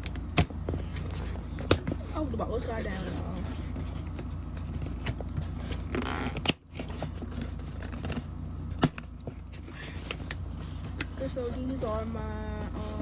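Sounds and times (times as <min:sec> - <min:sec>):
packaging rustling: 0:00.0 - 0:13.0
steady low hum: 0:00.0 - 0:13.0.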